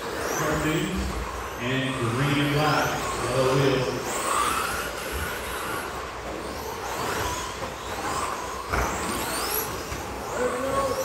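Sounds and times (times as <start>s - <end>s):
electric rc truck motors whining: 0.0s - 11.0s
tyre and drivetrain noise: 0.0s - 11.0s.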